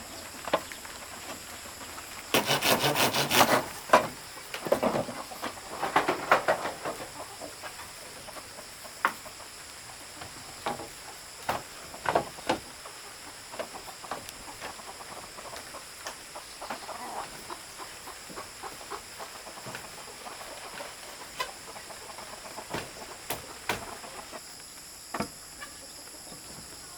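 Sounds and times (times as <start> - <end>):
chickens clucking: 0.0 - 26.9.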